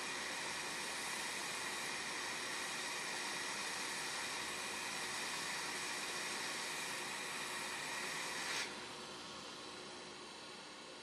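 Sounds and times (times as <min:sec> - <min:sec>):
hot air station hissing: 0:00.0 - 0:09.9.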